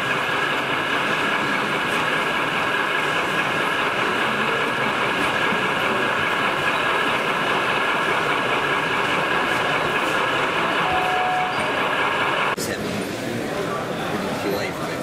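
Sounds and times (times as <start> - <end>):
model locomotive running: 0.0 - 12.6.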